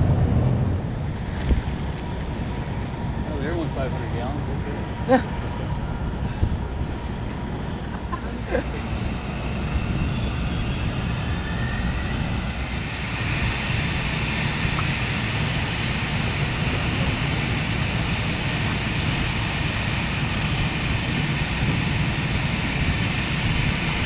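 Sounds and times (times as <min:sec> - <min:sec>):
high-pitched fan whine: 0:00.0 - 0:24.0
jet engines rumbling: 0:00.0 - 0:24.0.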